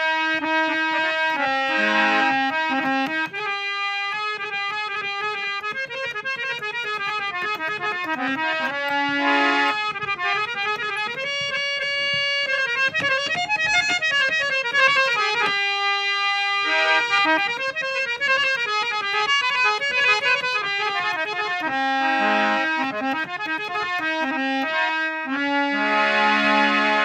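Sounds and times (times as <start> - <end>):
harmonium playing: 0.0 - 27.0.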